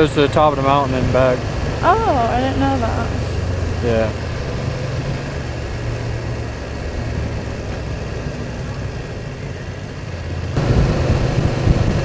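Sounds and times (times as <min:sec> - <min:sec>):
motorcycle engine running: 0:00.0 - 0:12.0
road rumble: 0:00.0 - 0:12.0
wind: 0:00.0 - 0:12.0.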